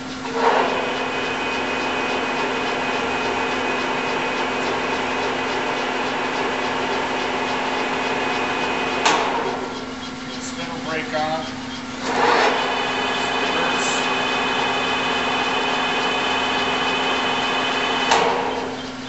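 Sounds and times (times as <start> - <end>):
lathe running with hum and whine: 0.0 - 19.0
lathe clunking into gear: 2.0 - 19.0.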